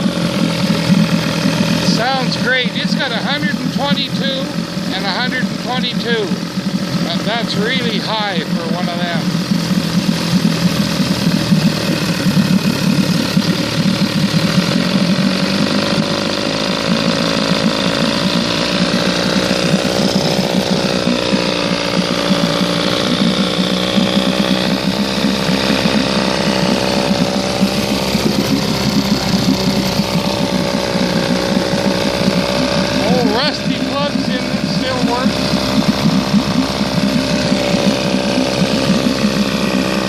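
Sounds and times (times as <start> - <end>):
outboard motor idling: 0.0 - 40.0.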